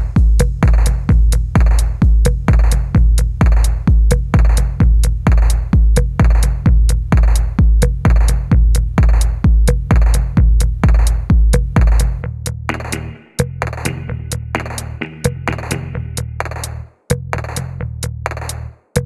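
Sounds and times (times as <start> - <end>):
drum-machine kick: 0.0 - 19.0
hi-hat ticks: 0.0 - 19.0.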